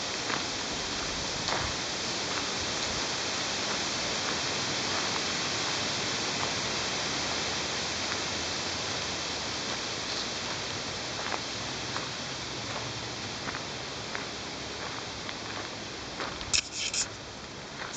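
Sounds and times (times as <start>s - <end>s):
breeze rustling leaves: 0.0s - 17.9s.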